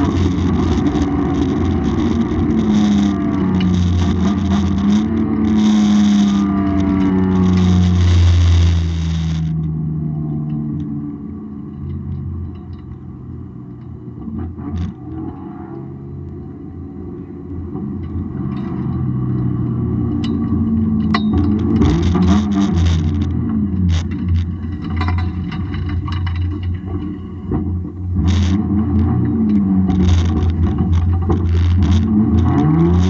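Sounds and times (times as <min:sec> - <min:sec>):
car engine revving: 0:00.0 - 0:12.4, 0:13.0 - 0:33.0.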